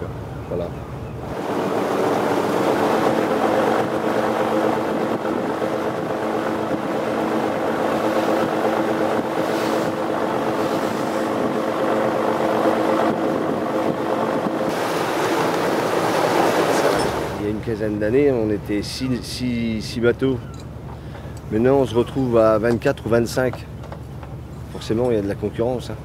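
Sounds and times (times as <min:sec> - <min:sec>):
rush of sea: 0:00.0 - 0:22.5
boat diesel engine humming: 0:00.0 - 0:26.0
wind: 0:00.0 - 0:26.0.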